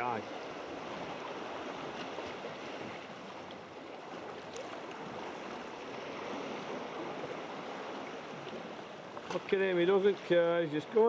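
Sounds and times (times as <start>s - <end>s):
water lapping around kayak: 0.0s - 11.0s.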